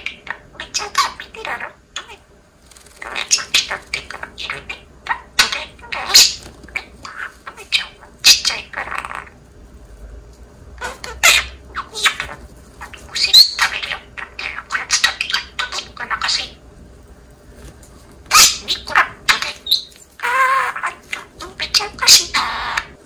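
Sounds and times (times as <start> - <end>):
parakeets chirping and squawking: 0.0 - 9.4, 10.8 - 16.6, 18.3 - 23.0.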